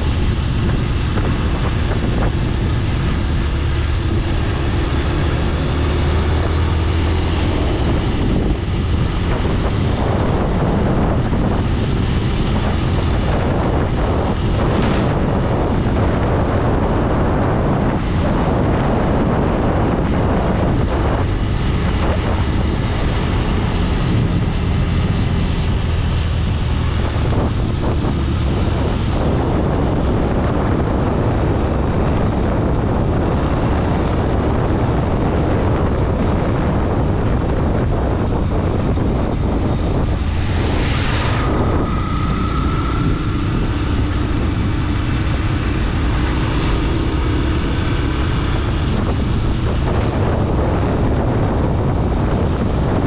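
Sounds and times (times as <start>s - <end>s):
vehicle engine and road noise: 0.0s - 53.0s
wind buffeting microphone: 0.0s - 53.0s.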